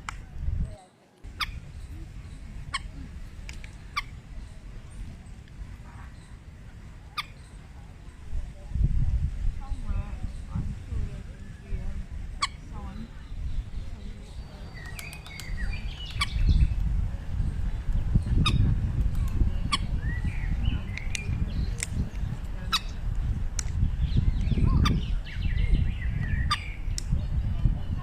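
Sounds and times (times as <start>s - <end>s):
steady low rumble: 0.0s - 28.0s
birds chirping and squawking: 1.3s - 8.4s, 9.6s - 28.0s.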